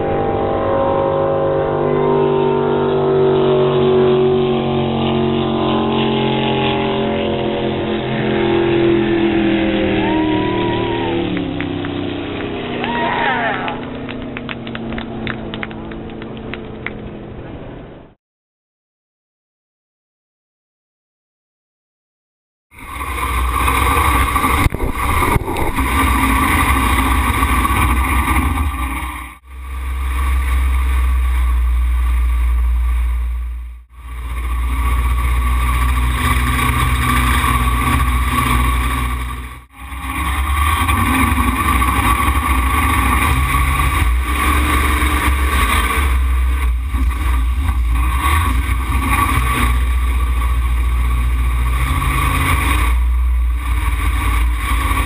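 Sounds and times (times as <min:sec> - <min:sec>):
jet boat engine running hard: 0:00.0 - 0:13.0, 0:22.8 - 0:55.0.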